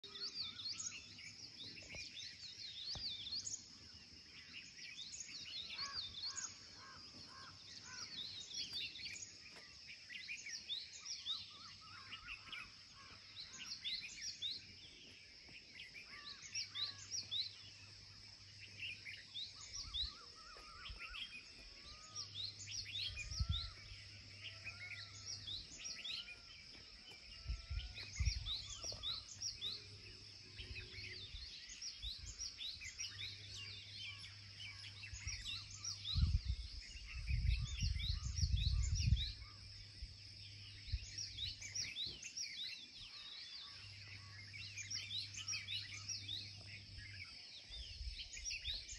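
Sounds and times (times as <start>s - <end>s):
birds chirping and calling: 0.0s - 48.9s.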